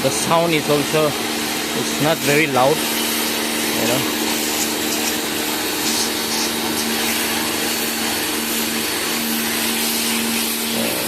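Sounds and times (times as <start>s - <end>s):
pressure washer motor hum: 0.0s - 11.0s
water jet hissing: 0.0s - 11.0s.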